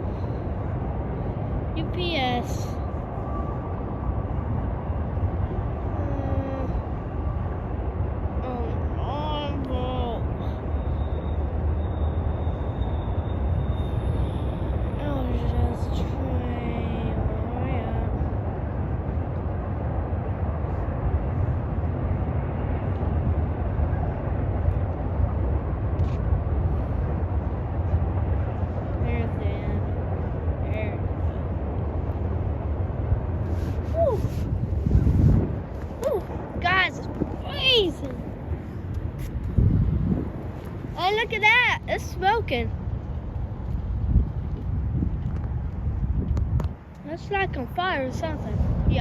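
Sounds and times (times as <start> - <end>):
freight train rumbling on rails: 0.0 - 47.0.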